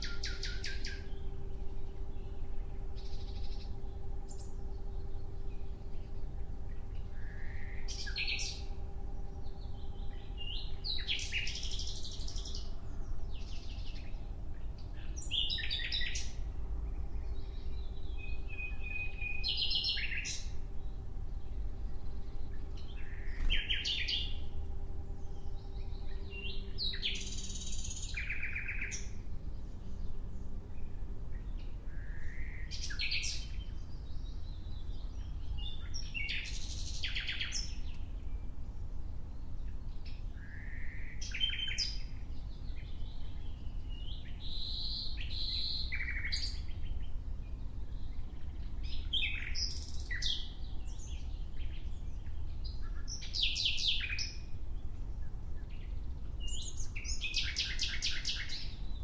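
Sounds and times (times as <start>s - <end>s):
low background rumble: 0.0s - 59.0s
nightingale singing: 0.0s - 59.0s.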